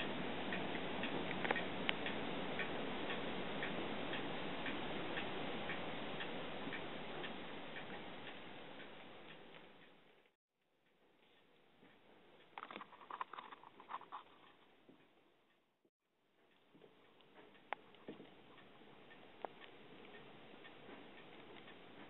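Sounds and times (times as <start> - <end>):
clock ticking: 0.0 - 12.6, 16.4 - 22.0.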